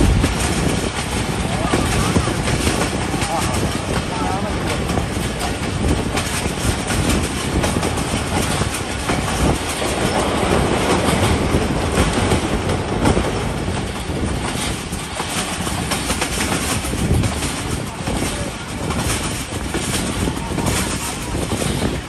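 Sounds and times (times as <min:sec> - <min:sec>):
clickety-clack over rail joints: 0:00.0 - 0:22.0
train wheels rumbling on rails: 0:00.0 - 0:22.0.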